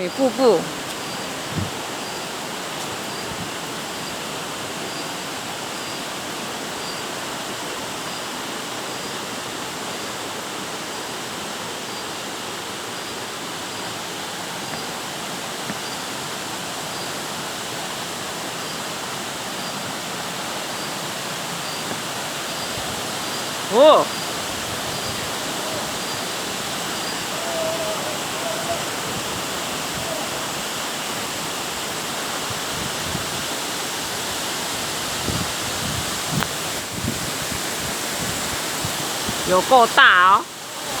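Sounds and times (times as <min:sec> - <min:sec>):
falling water rushing: 0:00.0 - 0:41.0.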